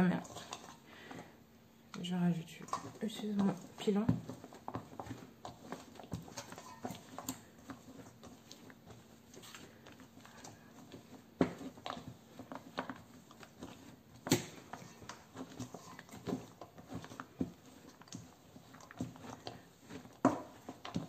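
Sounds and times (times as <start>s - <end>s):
pestle mashing soft paste: 0.0s - 1.3s, 2.6s - 21.0s.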